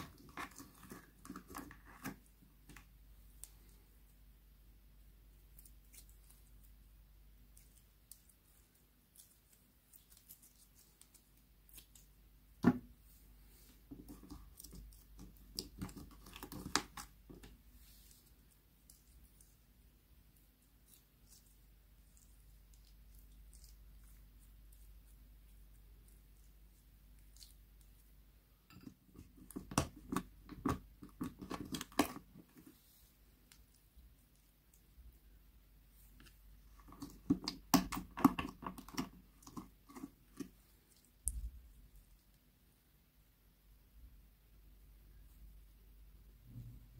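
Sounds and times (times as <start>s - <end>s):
sticky slime squishes: 0.0s - 3.8s, 5.2s - 13.0s, 13.6s - 42.4s.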